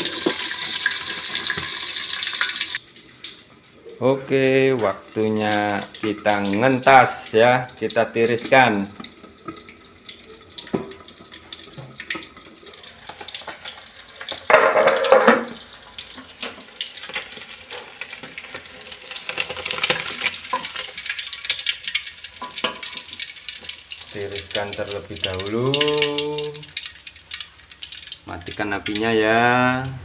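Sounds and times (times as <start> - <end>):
fish sizzling in hot oil: 0.0 - 3.2, 4.6 - 29.9.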